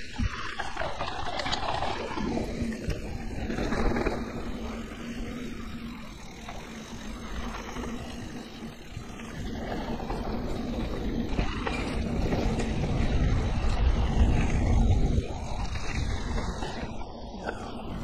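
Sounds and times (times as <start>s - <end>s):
bike tyres rolling over dirt: 0.0s - 18.0s
wind rumble on microphone: 0.0s - 18.0s.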